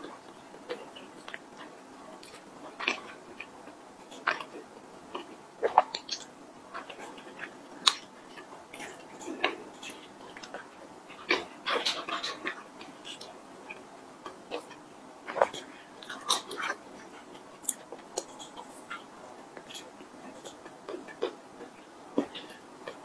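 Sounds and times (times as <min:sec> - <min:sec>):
person chewing sticky food: 0:00.0 - 0:23.0.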